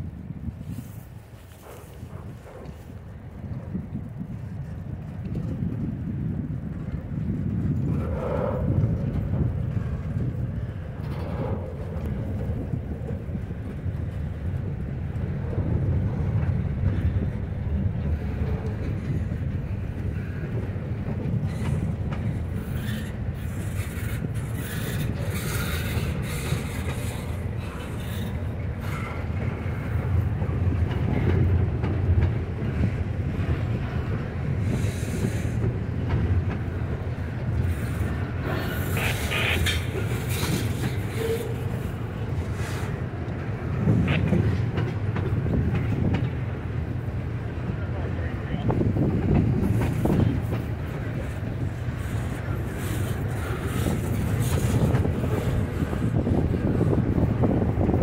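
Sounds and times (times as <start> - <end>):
train wheels rumbling on rail: 0.0 - 58.0
wheels clicking over rail joints: 1.0 - 58.0.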